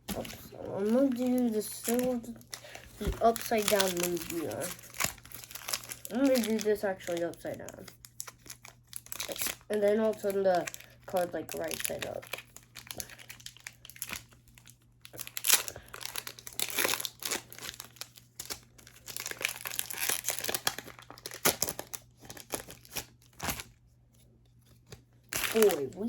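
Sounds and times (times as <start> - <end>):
foil pack crinkling and tearing: 0.1 - 23.8, 24.8 - 26.0.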